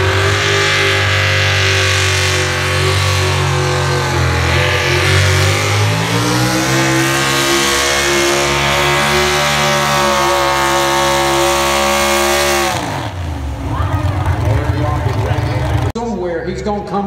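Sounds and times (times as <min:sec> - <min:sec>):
truck engine at full throttle: 0:00.0 - 0:16.9.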